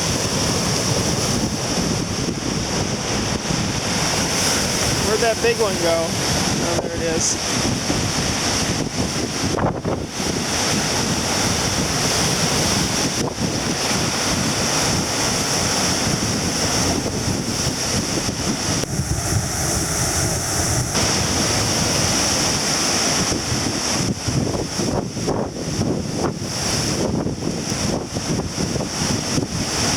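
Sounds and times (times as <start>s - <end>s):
heavy surf breaking: 0.0s - 29.9s
wind buffeting microphone: 0.0s - 29.9s.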